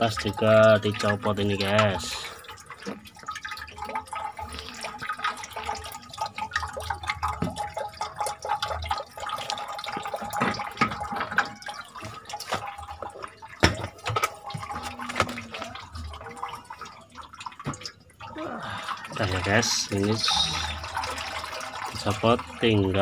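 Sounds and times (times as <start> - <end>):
water trickling into basin: 0.0 - 23.0.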